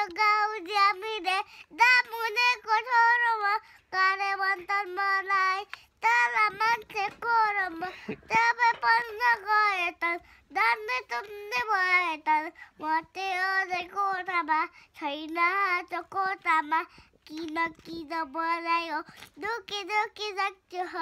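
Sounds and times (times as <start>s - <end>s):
child singing: 0.0s - 21.0s.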